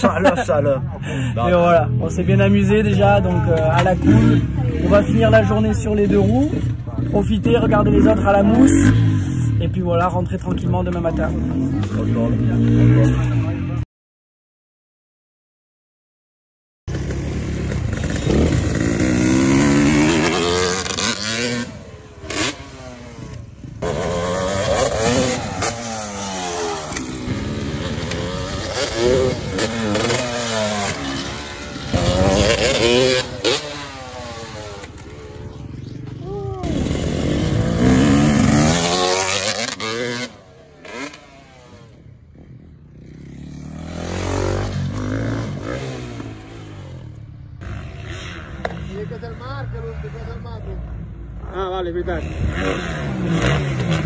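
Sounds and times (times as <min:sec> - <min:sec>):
motocross bike engines revving: 0:00.0 - 0:13.8, 0:16.9 - 0:54.0.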